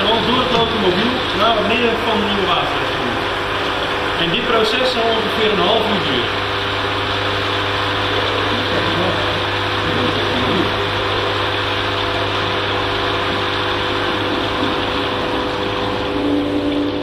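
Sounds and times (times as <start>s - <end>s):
machine hum with steady tones: 0.0s - 17.0s.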